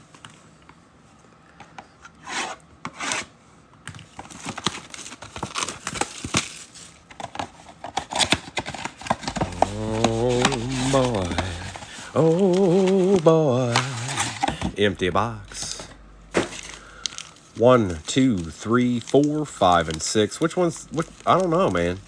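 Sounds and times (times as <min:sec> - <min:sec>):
plastic wrap crinkling: 0:04.2 - 0:22.0.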